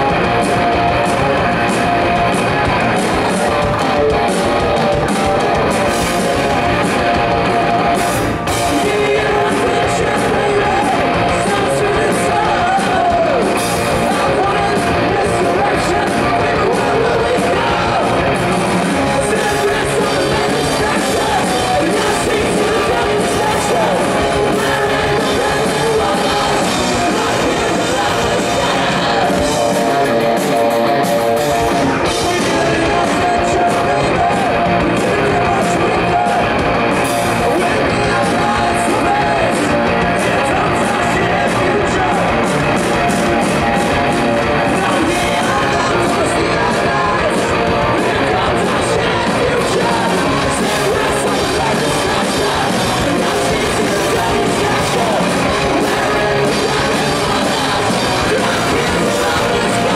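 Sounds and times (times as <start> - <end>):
live rock band with singing: 0.0 - 59.9.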